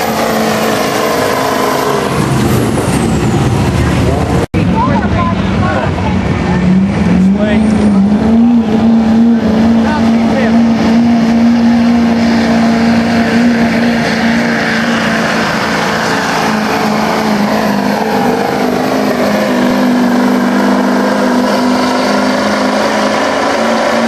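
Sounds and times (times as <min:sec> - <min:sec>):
diesel truck engine at high revs: 0:00.0 - 0:24.0.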